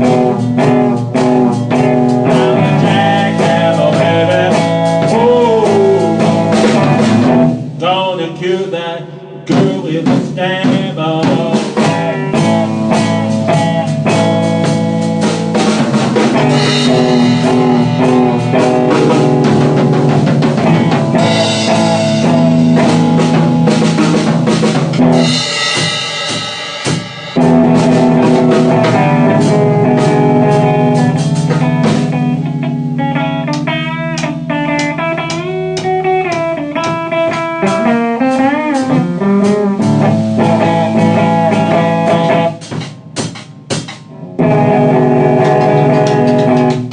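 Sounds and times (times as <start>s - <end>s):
blues guitar lead notes: 0.0s - 46.9s
drum kit slow beat: 0.0s - 46.9s.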